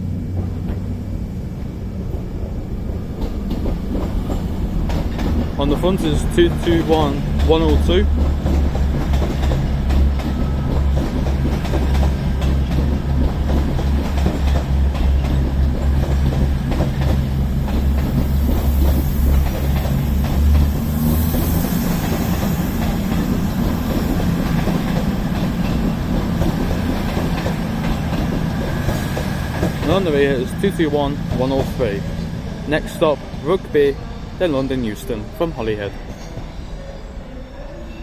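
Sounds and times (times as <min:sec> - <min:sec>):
diesel train engines droning: 0:00.0 - 0:38.0
wheels clattering on rails: 0:00.2 - 0:33.8.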